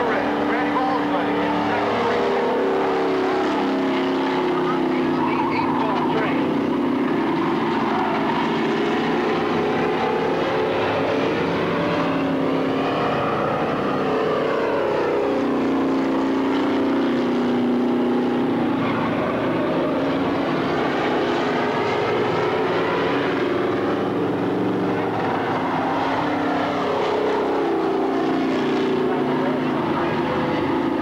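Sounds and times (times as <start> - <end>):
race car engines running: 0.0 - 31.0.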